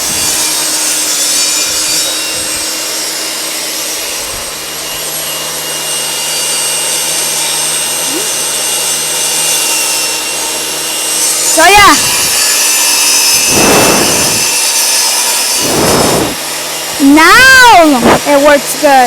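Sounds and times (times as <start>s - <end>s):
table saw cutting wood: 0.0s - 19.0s.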